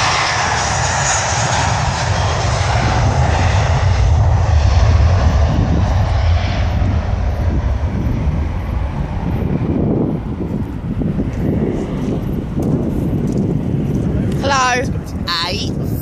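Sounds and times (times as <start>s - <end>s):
plane engines rumbling past: 0.0s - 16.0s.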